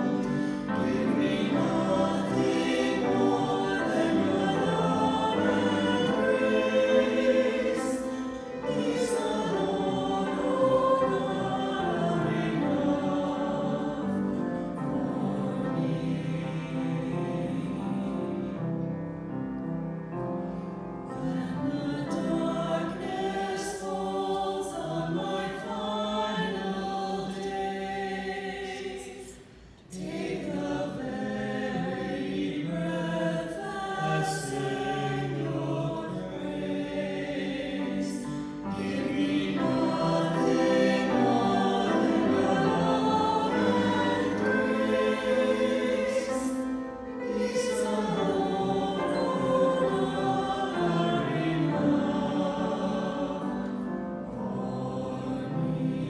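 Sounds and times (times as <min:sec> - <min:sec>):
cantors singing a hymn: 0:00.0 - 0:19.6, 0:20.4 - 0:56.0
grand piano accompaniment: 0:00.0 - 0:56.0.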